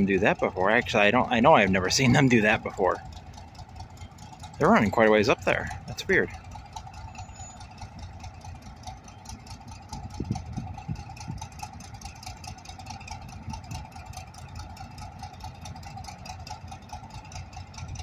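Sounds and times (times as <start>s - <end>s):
diesel locomotive engine idling: 0.0s - 18.0s.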